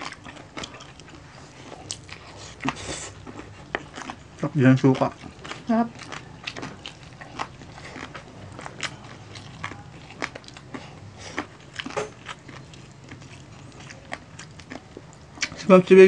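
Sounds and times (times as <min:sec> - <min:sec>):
crunchy chewing: 0:00.0 - 0:15.8.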